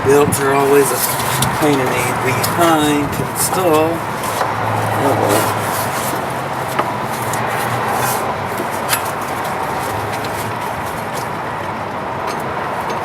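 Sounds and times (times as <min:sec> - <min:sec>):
steady background hum: 0:00.0 - 0:13.0
belt rubbing on pulleys: 0:00.6 - 0:11.3.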